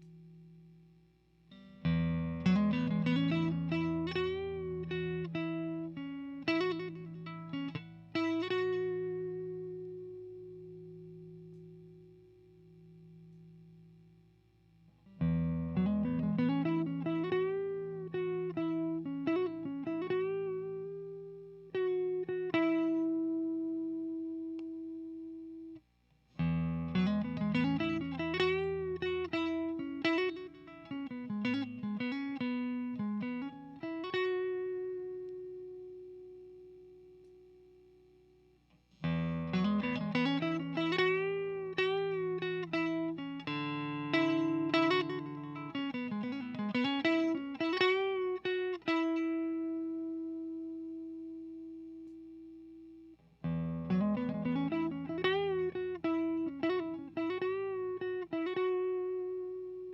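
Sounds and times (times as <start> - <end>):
electric guitar lead phrases: 0.0 - 59.9.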